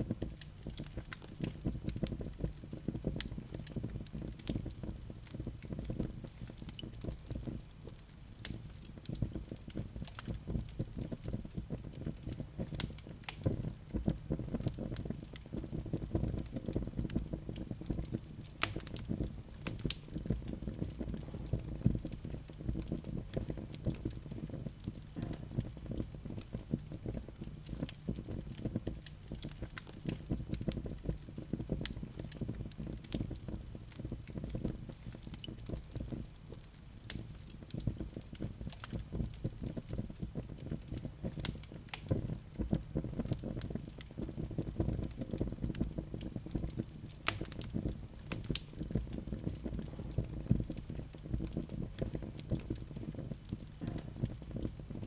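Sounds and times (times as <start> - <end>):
low rumble of burning fire: 0.0 - 55.0
logs crackling and popping: 0.1 - 55.0.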